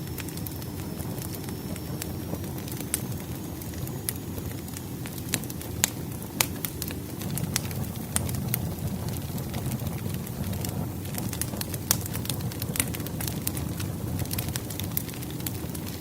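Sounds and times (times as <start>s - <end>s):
campfire crackling and popping: 0.0s - 16.0s
low rumble of flame: 0.0s - 16.0s.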